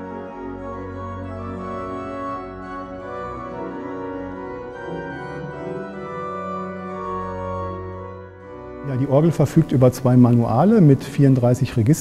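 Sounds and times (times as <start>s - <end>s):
church organ chords: 0.0s - 12.0s.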